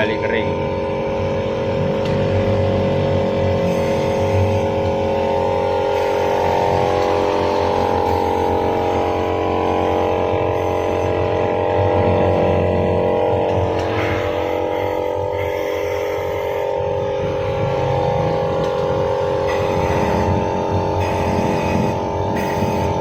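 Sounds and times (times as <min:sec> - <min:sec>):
air compressor humming: 0:00.0 - 0:23.0.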